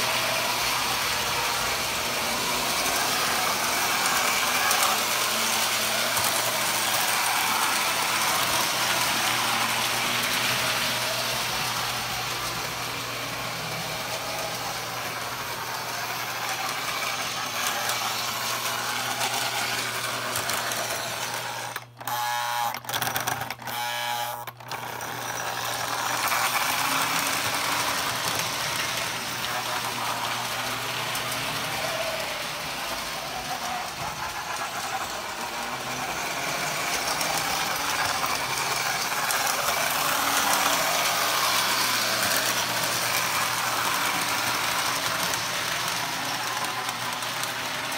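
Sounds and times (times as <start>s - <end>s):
toy train motors whirring and rattling: 0.0s - 47.9s.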